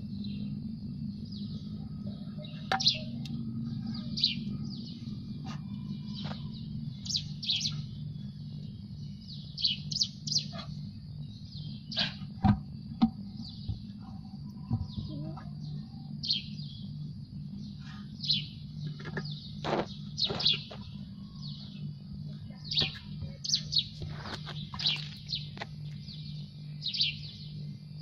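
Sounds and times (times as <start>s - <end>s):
small birds chirping: 0.0s - 28.0s
steady low hum: 0.0s - 28.0s.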